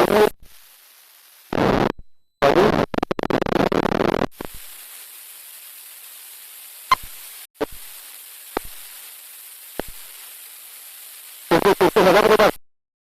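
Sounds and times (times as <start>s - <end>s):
steady hiss: 0.0s - 1.9s, 3.8s - 12.6s.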